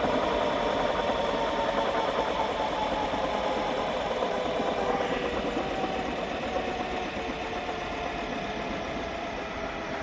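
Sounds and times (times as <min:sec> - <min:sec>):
helicopter engine and rotor running: 0:00.0 - 0:10.0.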